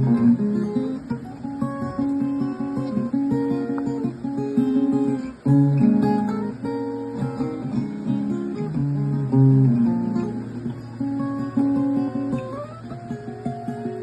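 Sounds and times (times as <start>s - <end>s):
guitar picked notes and chords: 0.0s - 14.0s.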